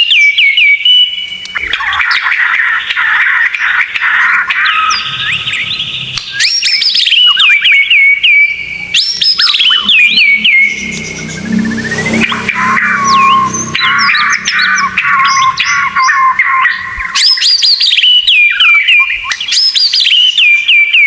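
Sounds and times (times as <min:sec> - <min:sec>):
songbird trilling and whistling: 0:00.0 - 0:21.0.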